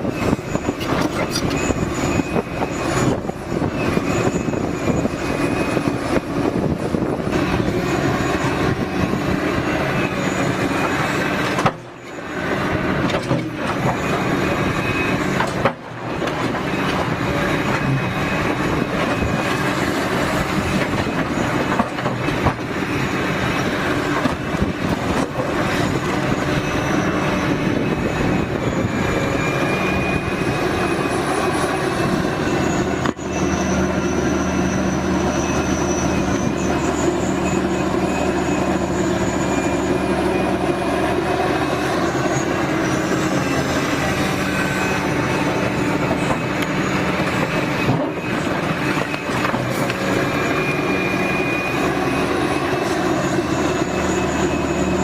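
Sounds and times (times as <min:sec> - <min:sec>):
excavator diesel engine: 0:00.0 - 0:55.0
high squealing tones: 0:00.0 - 0:55.0.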